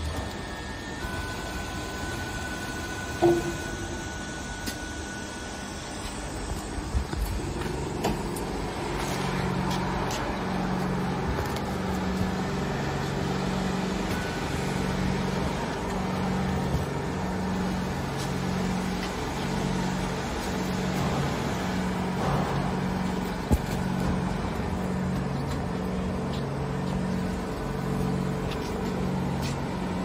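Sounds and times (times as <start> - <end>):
packing machine humming: 0.0 - 30.0.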